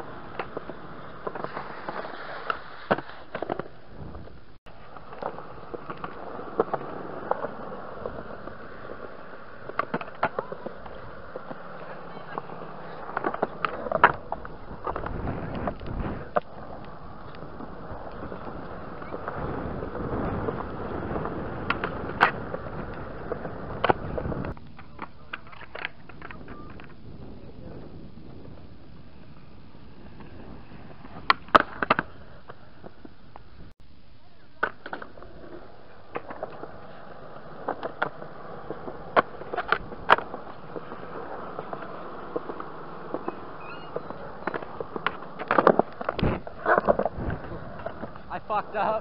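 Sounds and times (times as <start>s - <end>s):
skateboard wheels rolling on concrete: 0.0s - 49.0s
skateboard clicks and taps: 0.3s - 27.0s, 30.2s - 33.5s, 34.6s - 49.0s.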